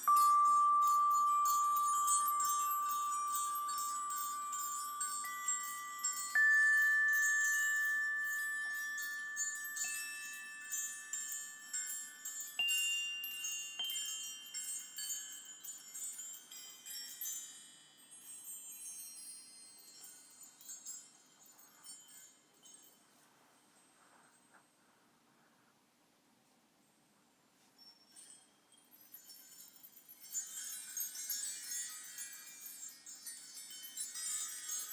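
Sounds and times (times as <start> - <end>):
glockenspiel notes ringing: 0.0 - 23.0, 28.2 - 34.9
high chime tinkle: 0.0 - 24.9, 27.7 - 34.9.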